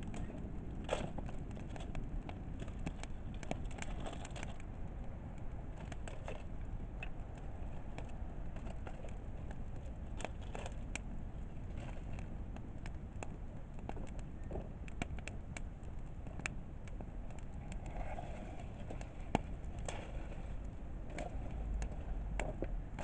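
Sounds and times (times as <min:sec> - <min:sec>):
campfire crackling and popping: 0:00.0 - 0:23.0
low background rumble: 0:00.0 - 0:23.0.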